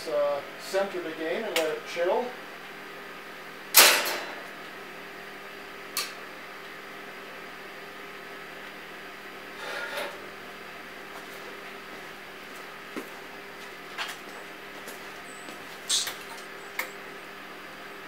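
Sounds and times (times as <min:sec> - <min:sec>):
equipment hum: 0:00.0 - 0:18.0.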